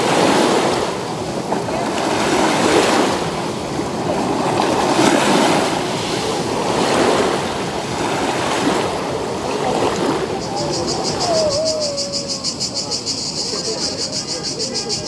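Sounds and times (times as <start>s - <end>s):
small waves breaking on shore: 0.0s - 12.6s.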